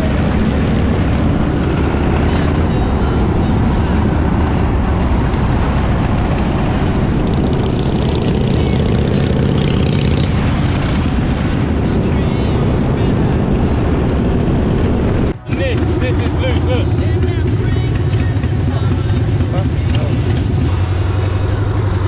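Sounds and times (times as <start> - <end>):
background music: 0.0 - 22.0
vehicle engine and road noise: 0.0 - 22.0.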